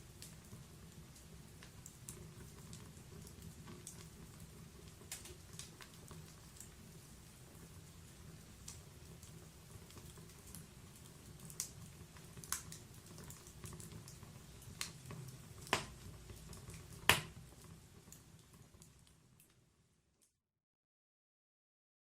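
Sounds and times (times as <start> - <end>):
low rumble of flames: 0.1 - 19.5
log fire popping and snapping: 0.1 - 19.6.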